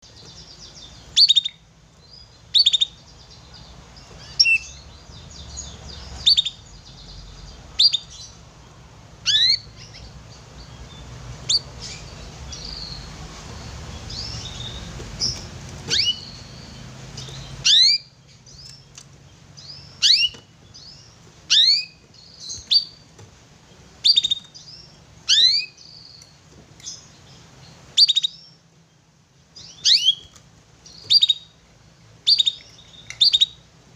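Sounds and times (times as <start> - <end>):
canary chirping: 0.0 - 33.8.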